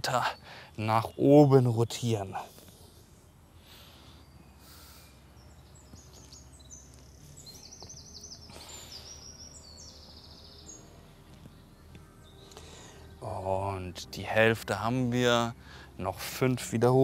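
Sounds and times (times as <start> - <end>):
low outdoor background rumble: 0.0 - 17.0
songbirds chirping and trilling: 0.0 - 17.0.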